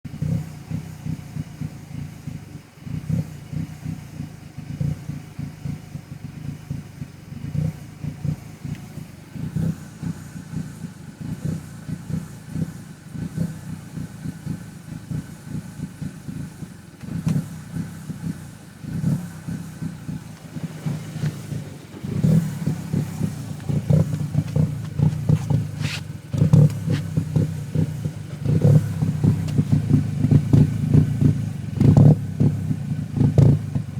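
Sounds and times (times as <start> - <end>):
car engine idling roughly: 0.1 - 33.9.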